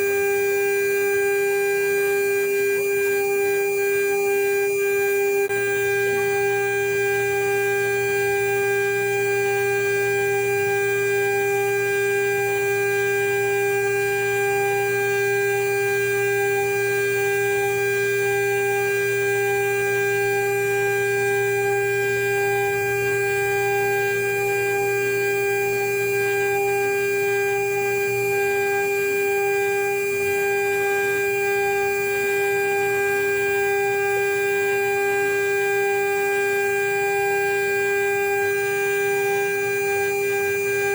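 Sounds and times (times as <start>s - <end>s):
router spindle high-pitched whine: 0.0s - 40.9s.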